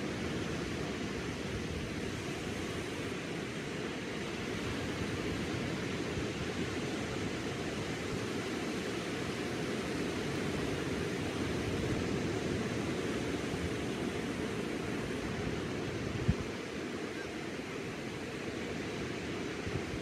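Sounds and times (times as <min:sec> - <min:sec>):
waves washing up a beach: 0:00.0 - 0:20.0.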